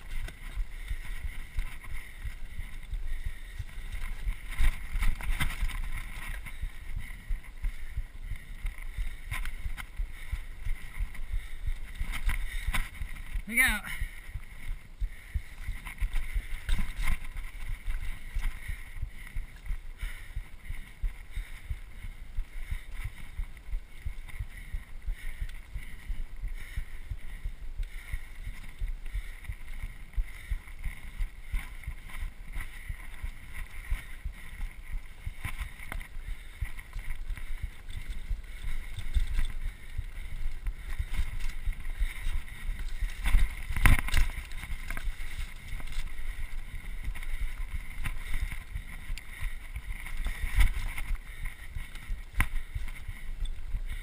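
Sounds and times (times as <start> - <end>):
bike rattling: 0.0 - 54.0.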